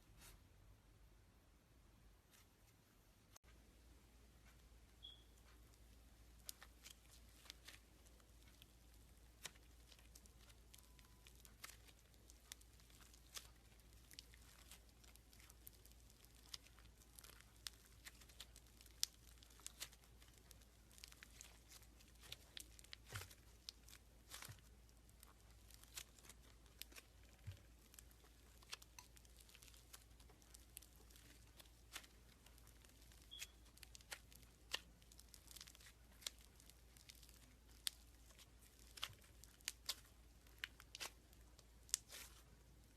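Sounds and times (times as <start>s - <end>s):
slime crackling and popping: 5.0s - 42.9s.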